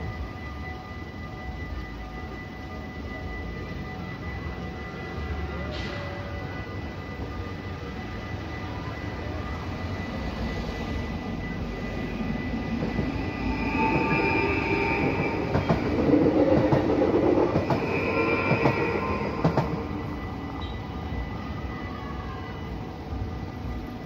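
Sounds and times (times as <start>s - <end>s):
crossing warning bells ringing: 0.0s - 24.0s
electric train passing: 0.0s - 24.0s.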